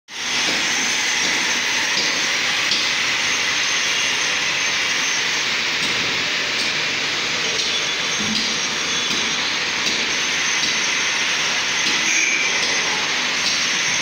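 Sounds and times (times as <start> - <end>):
concrete floor grinder roaring: 0.1 - 14.0.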